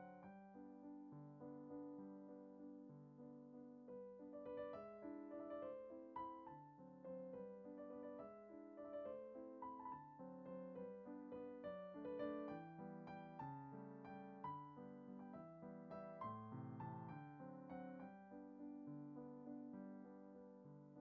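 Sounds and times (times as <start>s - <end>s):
quiet piano music: 0.0s - 21.0s.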